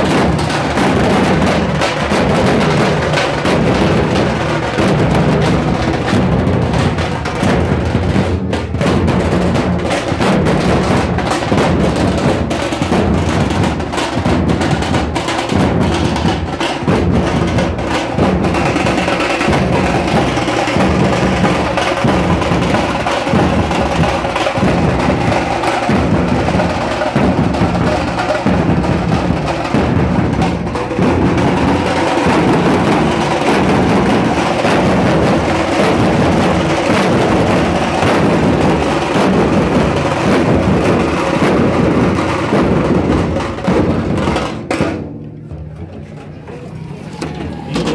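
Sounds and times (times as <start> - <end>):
barrel drums beaten fast: 0.0 - 47.9.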